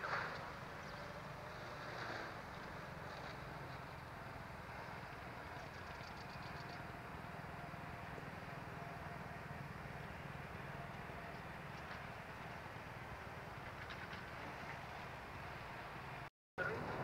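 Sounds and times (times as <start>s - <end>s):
distant jet engines running: 0.0s - 17.0s.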